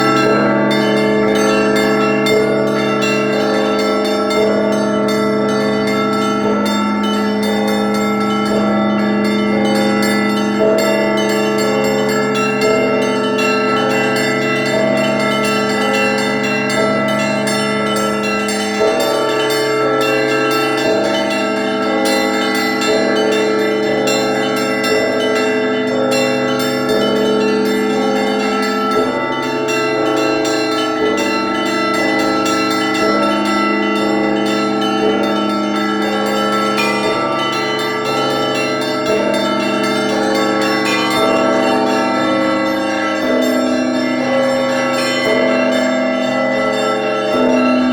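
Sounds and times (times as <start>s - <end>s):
large bells humming: 0.0s - 47.9s
small church bells pealing: 0.0s - 47.9s.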